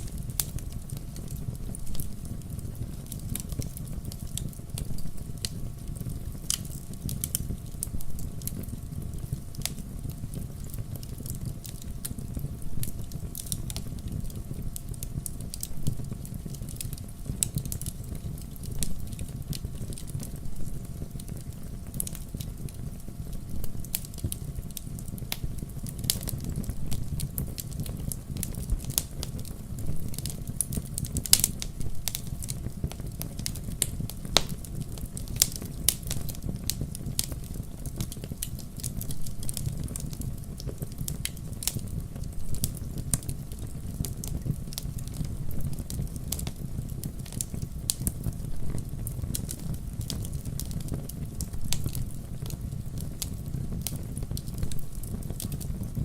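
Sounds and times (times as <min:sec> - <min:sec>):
low rumble of flame: 0:00.0 - 0:56.0
wood fire crackling: 0:00.0 - 0:56.0.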